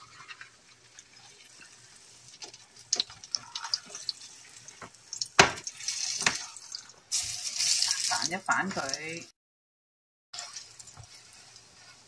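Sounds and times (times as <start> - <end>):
oil crackles and pops: 0.0 - 9.2, 10.4 - 12.0
pancakes sizzling in oil: 0.0 - 9.3, 10.4 - 12.0.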